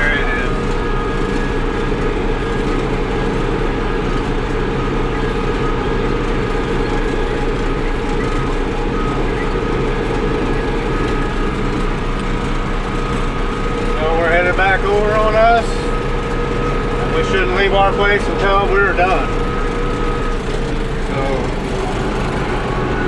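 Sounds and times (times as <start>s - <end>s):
faint steady whine: 0.0s - 23.0s
tractor engine running: 0.0s - 23.0s.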